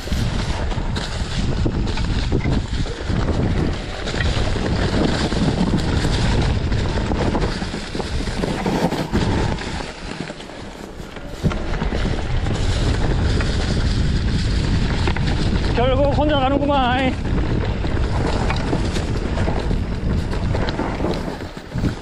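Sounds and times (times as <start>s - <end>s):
mountain bike rattle and tyre noise: 0.0s - 22.0s
wind buffeting microphone: 0.0s - 22.0s.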